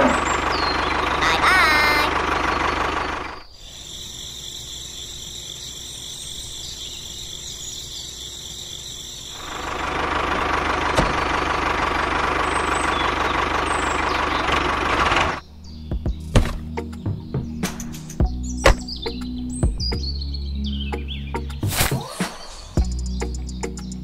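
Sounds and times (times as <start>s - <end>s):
tractor engine running: 0.0s - 20.2s.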